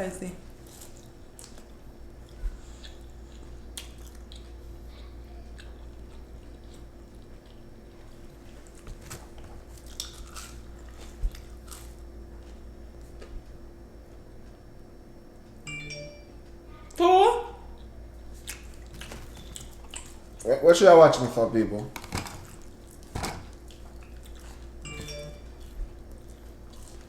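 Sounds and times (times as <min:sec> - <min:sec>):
steady low hum: 0:00.0 - 0:27.0
people chewing crunchy food: 0:00.5 - 0:13.6, 0:17.7 - 0:20.5, 0:21.1 - 0:27.0.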